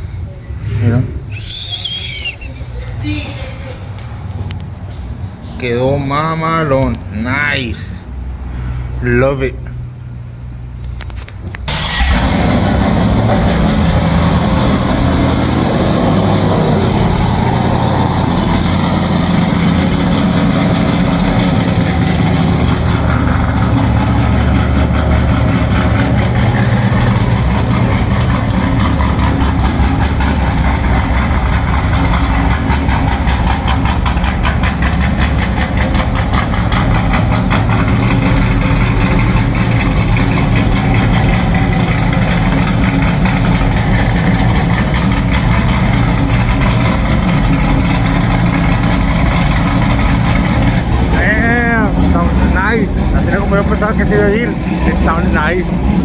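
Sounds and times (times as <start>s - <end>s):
truck engine idling: 0.0s - 7.1s, 7.7s - 56.0s.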